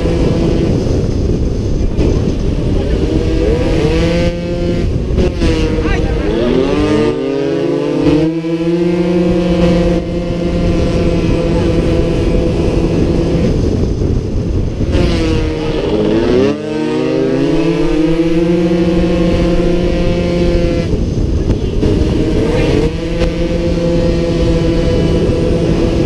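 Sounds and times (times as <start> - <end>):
racing motorcycle engine running hard: 0.0 - 26.0
wind rush on microphone: 0.0 - 26.0.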